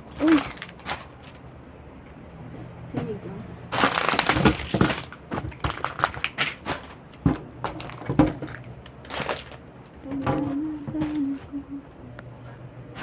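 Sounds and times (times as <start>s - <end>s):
plastic items being handled: 0.0s - 1.8s, 3.7s - 13.0s.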